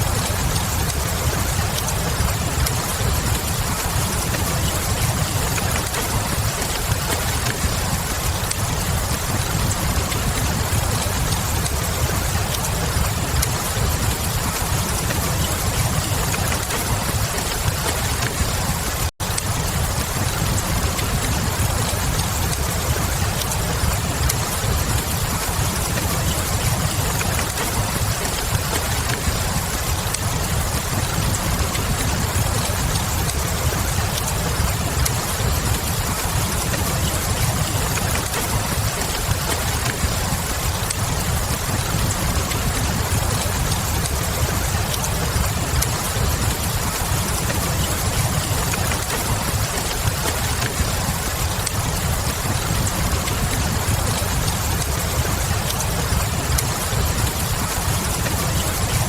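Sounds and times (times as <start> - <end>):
fireplace crackle: 0.0 - 59.0
steady rain: 0.0 - 59.0.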